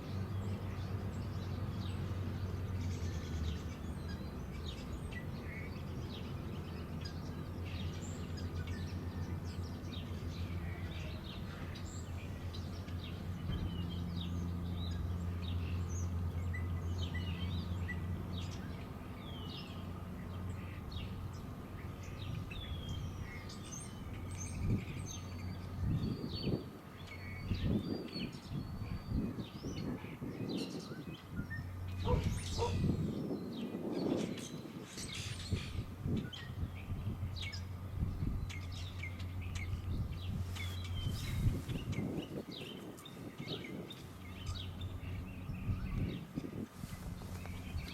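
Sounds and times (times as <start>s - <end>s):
songbirds chirping: 0.0s - 47.9s.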